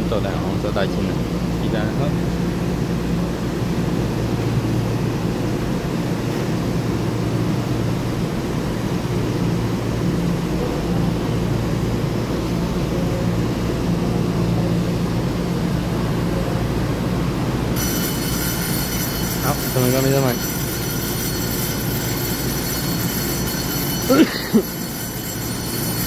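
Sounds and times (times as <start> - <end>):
electric train humming: 0.0 - 26.0.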